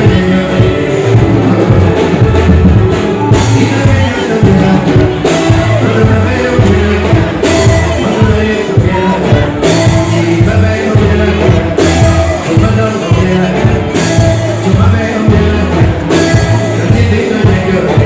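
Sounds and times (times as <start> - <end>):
live band music with singer: 0.0 - 18.0.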